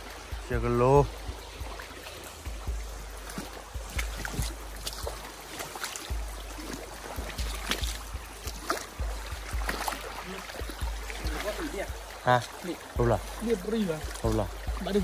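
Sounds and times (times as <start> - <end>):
stream water running: 0.0 - 15.0
small splashes and knocks: 1.3 - 15.0.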